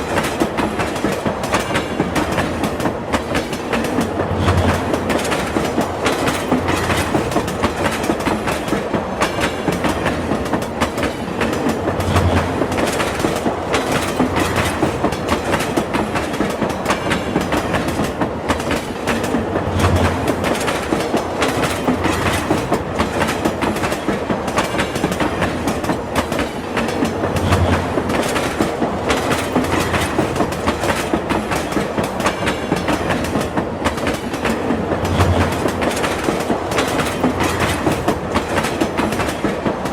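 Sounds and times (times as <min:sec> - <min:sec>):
train rumbling on rails: 0:00.0 - 0:39.9
wheels clickety-clack: 0:00.0 - 0:39.9.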